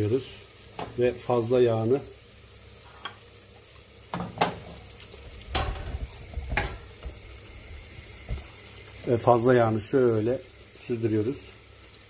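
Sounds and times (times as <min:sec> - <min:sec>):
fish frying sizzle: 0:00.0 - 0:12.0.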